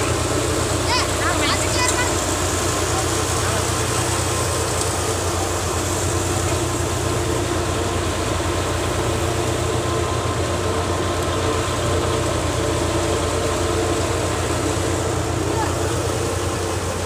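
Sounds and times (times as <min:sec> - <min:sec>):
threshing machine whirring hum: 0:00.0 - 0:17.0
tractor diesel engine throbbing: 0:00.0 - 0:17.0.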